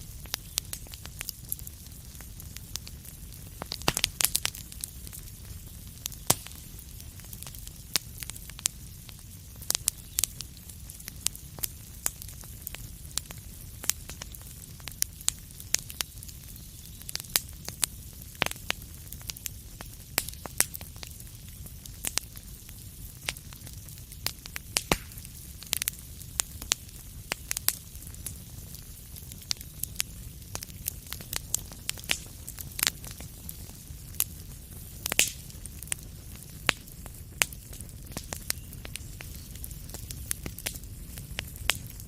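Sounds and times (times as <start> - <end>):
low rumble of flame: 0.0 - 42.0
wood fire crackling and popping: 0.0 - 42.0.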